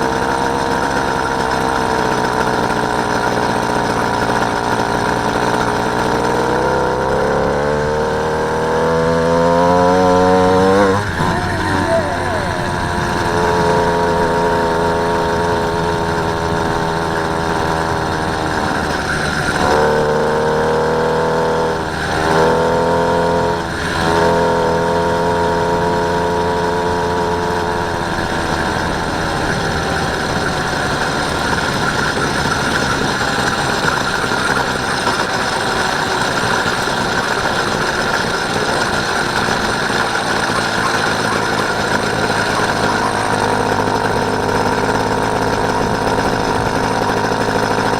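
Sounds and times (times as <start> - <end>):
small motorbike engine running: 0.0 - 47.9.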